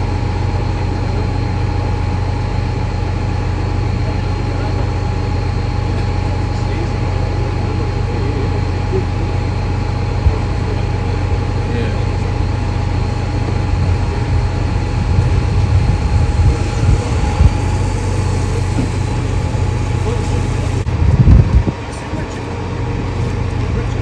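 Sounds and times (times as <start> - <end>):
constant whine: 0.0 - 24.0
diesel engine rumbling: 0.0 - 24.0.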